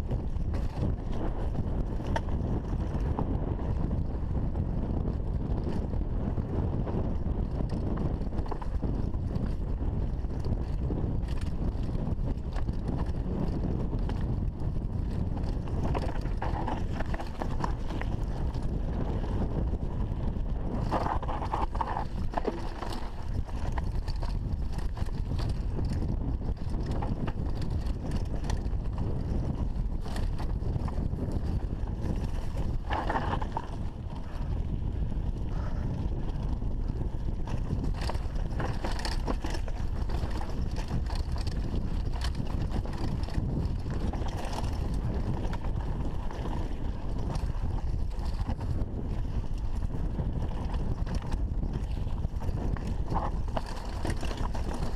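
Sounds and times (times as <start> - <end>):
bike chain and frame rattling: 0.0 - 54.9
wind on microphone: 0.0 - 54.9
tyres on dirt and stones: 0.3 - 3.8, 7.7 - 35.7, 36.8 - 54.9.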